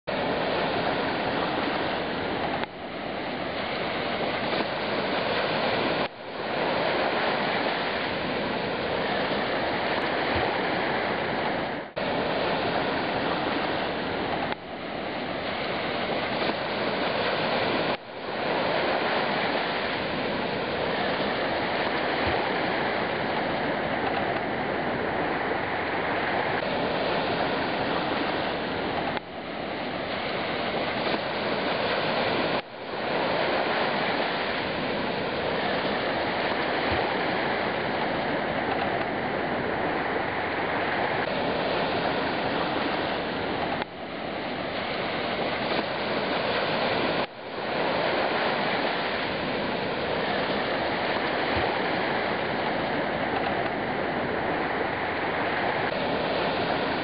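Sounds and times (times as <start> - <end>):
ocean surf on sandy beach: 0.0 - 57.0.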